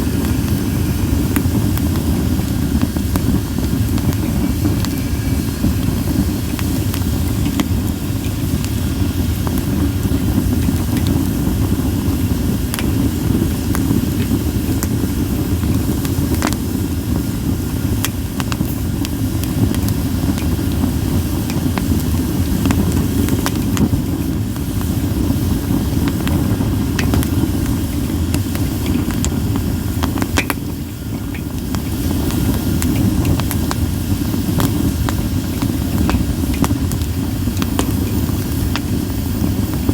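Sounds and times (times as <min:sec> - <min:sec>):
campfire flames rumbling: 0:00.0 - 0:39.9
fire crackling and popping: 0:00.0 - 0:39.9.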